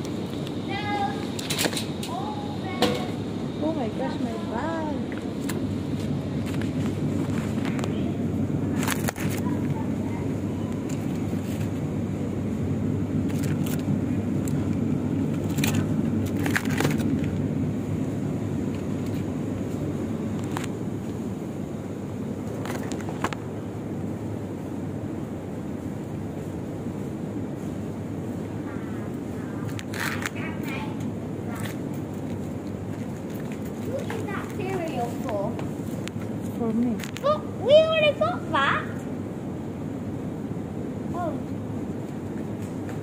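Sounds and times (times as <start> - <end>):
supermarket background noise: 0.0 - 38.2.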